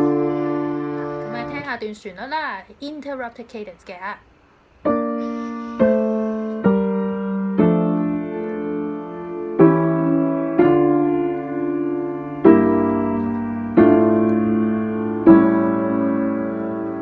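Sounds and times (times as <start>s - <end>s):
piano chords ringing: 0.0s - 1.8s, 4.8s - 17.0s.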